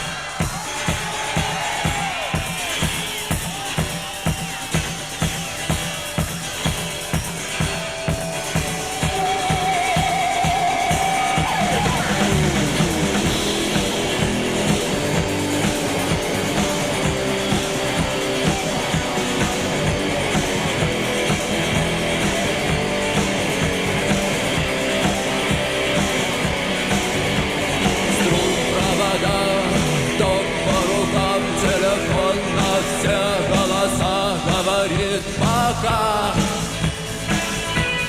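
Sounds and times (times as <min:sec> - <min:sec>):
rock guitar: 0:00.0 - 0:38.0
steady drum beat: 0:00.0 - 0:38.0.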